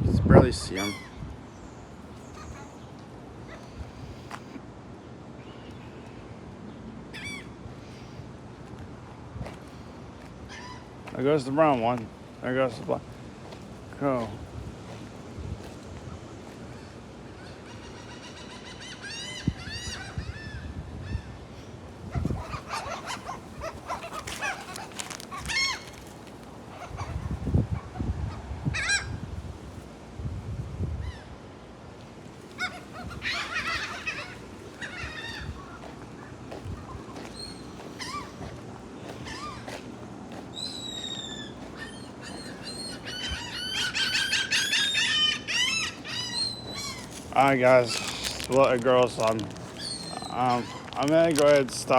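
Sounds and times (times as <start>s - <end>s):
seagulls calling: 0.4s - 4.6s, 7.1s - 8.2s, 9.4s - 29.2s, 32.3s - 51.9s.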